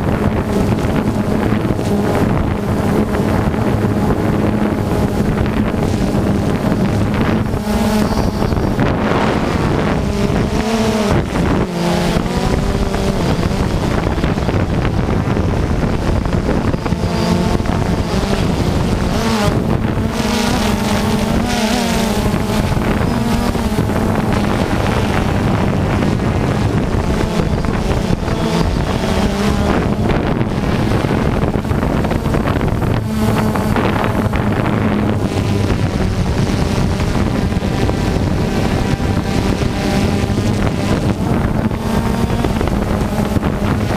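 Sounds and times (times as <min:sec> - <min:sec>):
rc car engines accelerating: 0:00.0 - 0:43.9
wind buffeting microphone: 0:00.0 - 0:43.9.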